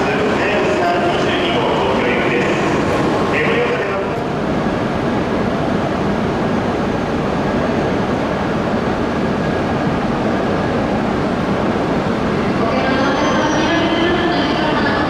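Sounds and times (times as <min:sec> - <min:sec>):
train running along platform: 0:00.0 - 0:15.0.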